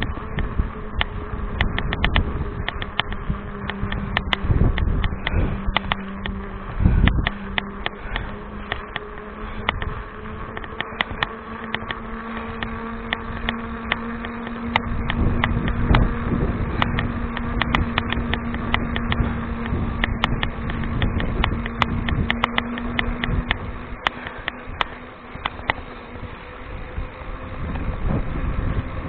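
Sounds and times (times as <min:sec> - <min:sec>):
bike buzzing hum: 0:00.0 - 0:29.0
bike clicks and rattles: 0:00.0 - 0:29.0.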